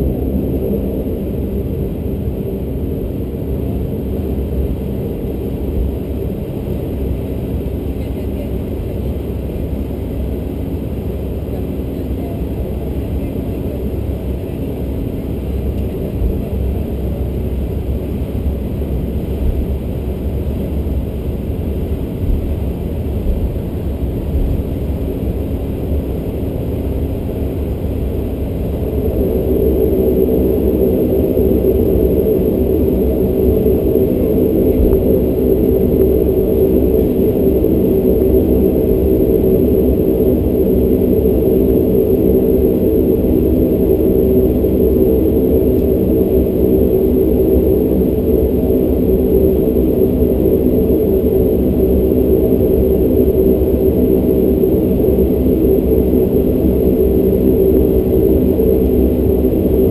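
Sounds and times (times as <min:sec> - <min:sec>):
turboprop engines droning in cabin: 0:00.0 - 0:59.9.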